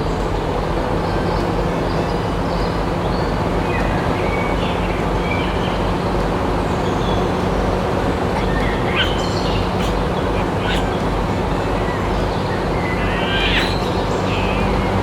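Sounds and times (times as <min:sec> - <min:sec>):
mechanical running hum: 0:00.0 - 0:15.0.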